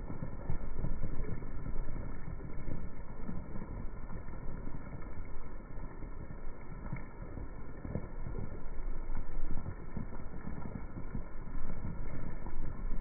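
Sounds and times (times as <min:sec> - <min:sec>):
deep rumbling slowed rain: 0:00.0 - 0:13.0.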